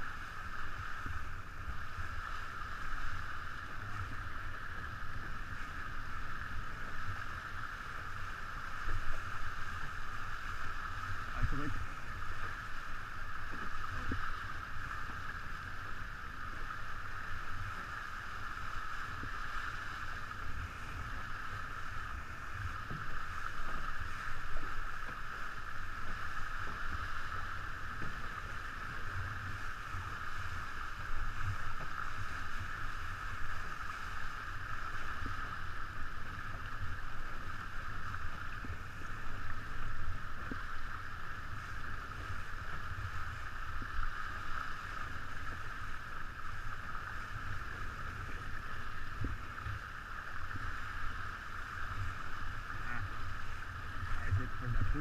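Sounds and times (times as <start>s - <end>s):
fluttering wind rumble: 0.0s - 55.0s.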